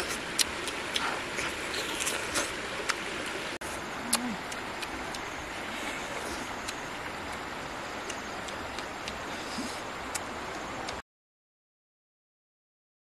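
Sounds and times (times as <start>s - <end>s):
stream flowing over stones: 0.0s - 10.5s.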